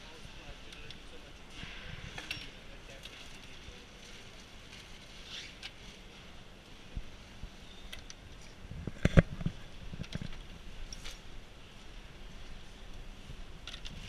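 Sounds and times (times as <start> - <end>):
factory floor background noise: 0.0 - 14.0.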